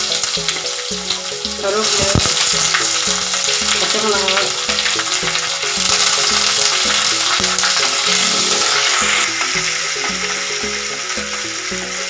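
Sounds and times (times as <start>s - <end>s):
background music with steady beat: 0.0s - 12.0s
vegetables sizzling in hot oil: 0.0s - 12.0s.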